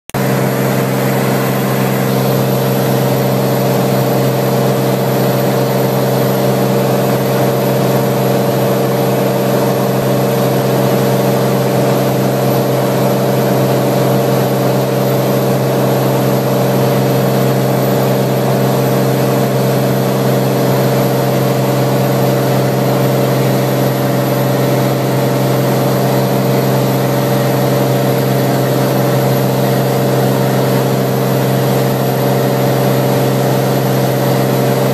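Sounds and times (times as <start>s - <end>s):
light aircraft engine droning: 0.2s - 34.9s.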